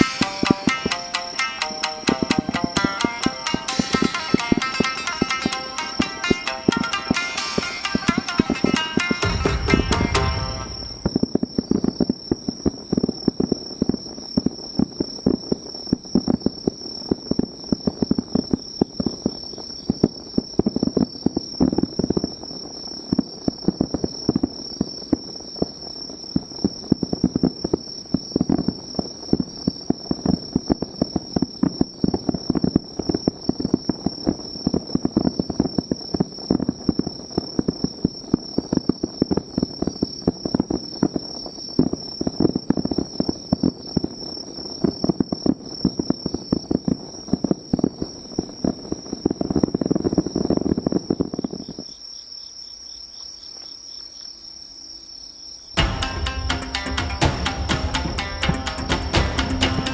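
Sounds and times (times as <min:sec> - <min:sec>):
fireworks crackling and popping: 0:00.0 - 0:52.4, 0:55.8 - 0:59.9
insects trilling: 0:00.0 - 0:59.9.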